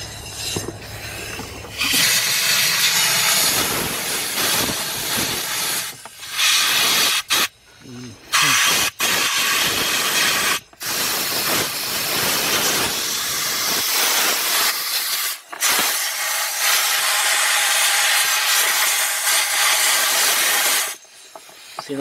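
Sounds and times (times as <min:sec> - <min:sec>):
compressed air blow gun hissing: 0:00.0 - 0:22.0.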